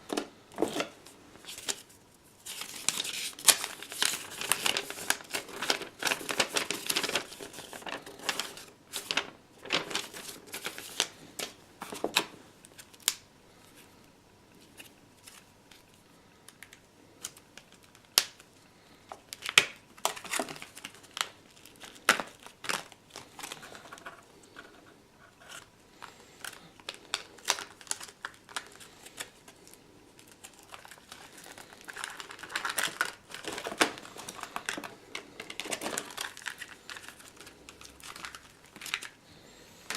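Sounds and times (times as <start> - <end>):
plastic wrapping crinkling: 0.0 - 13.2, 16.5 - 39.2.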